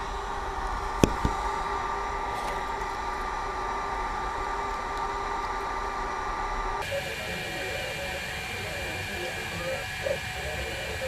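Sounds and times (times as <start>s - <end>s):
faint hum: 0.0s - 11.0s
fan-like whir: 0.0s - 11.0s.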